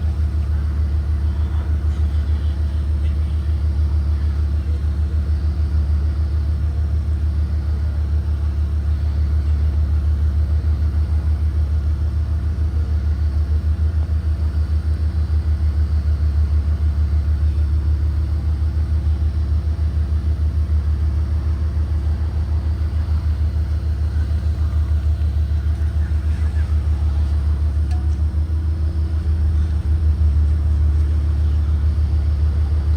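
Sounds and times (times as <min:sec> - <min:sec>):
bus engine rumbling: 0:00.0 - 0:32.9.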